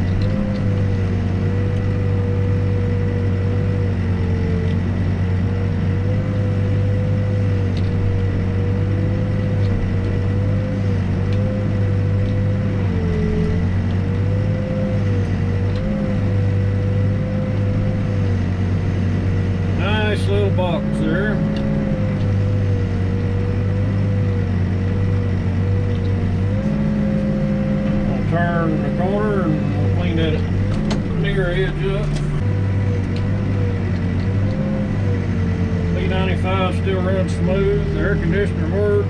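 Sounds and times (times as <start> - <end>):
diesel engine running: 0.0 - 39.0
hydraulic whine: 0.0 - 39.0.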